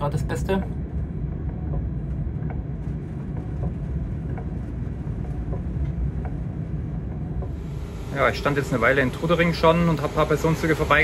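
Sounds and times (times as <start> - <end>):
low rumble inside locomotive cab: 0.0 - 11.0.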